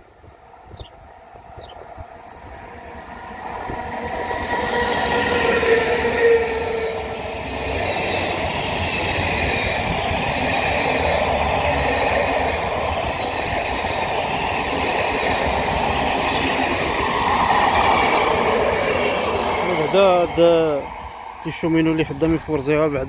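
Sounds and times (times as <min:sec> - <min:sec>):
train wheels on rails: 0:00.0 - 0:23.0.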